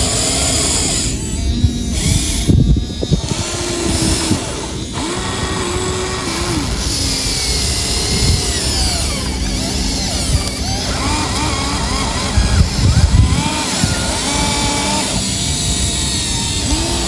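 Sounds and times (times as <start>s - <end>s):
electric motors whining: 0.0s - 17.0s
mechanical clatter: 0.0s - 17.0s.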